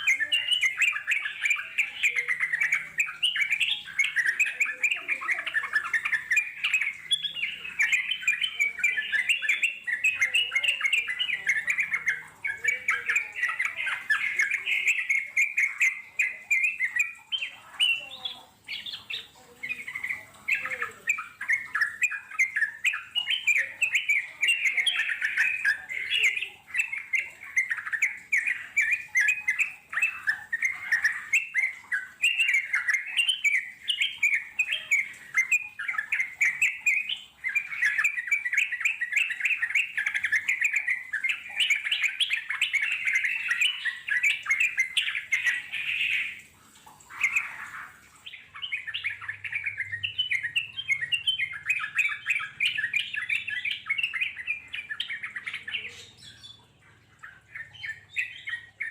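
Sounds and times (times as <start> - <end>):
bulbuls singing: 0.0 - 58.9.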